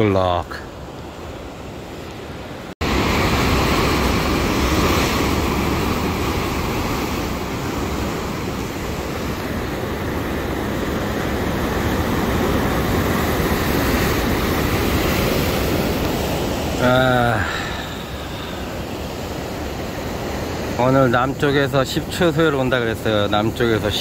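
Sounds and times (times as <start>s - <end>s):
surf breaking on rocks: 2.8s - 24.0s.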